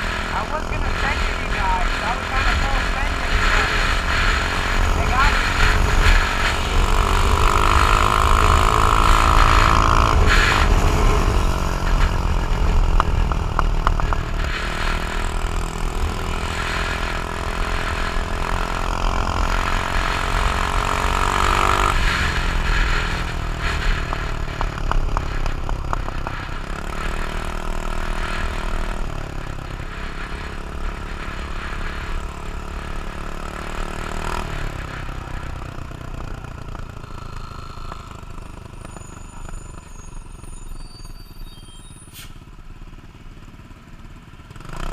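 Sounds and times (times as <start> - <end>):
scooter engine whining: 0.0 - 42.1.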